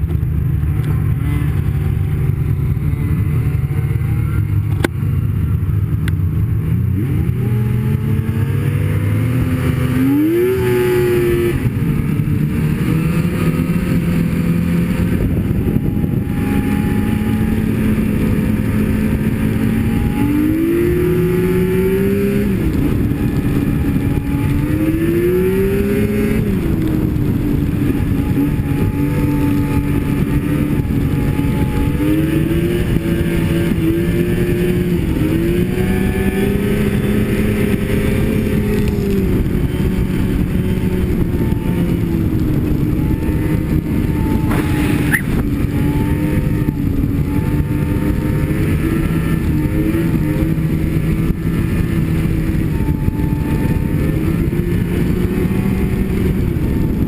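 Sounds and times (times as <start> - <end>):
rush of noise: 0.0 - 57.0
snowmobile engine running: 0.0 - 57.0.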